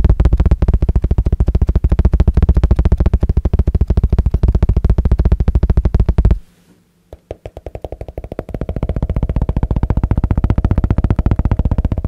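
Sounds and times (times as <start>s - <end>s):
fingertips tapping on hardcover book: 0.0s - 6.4s, 7.1s - 12.0s
fingertips tapping on rubber paddle: 0.0s - 6.4s, 7.1s - 12.0s.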